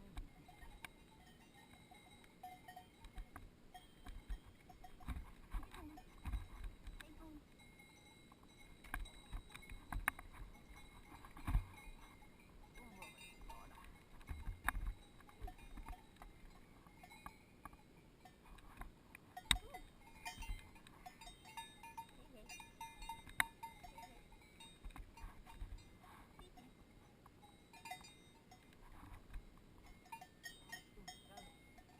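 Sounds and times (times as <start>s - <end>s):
cowbells clanking: 0.0s - 31.9s.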